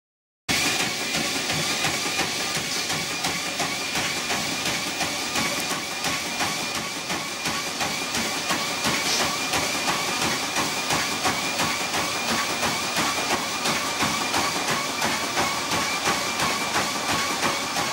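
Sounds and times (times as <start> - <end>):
footfalls on treadmill belt: 0.5 - 17.9
treadmill motor hum: 0.5 - 17.9.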